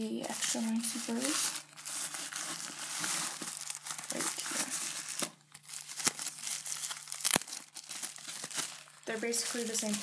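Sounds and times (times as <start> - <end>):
plastic wrappers crinkling: 0.2 - 10.0.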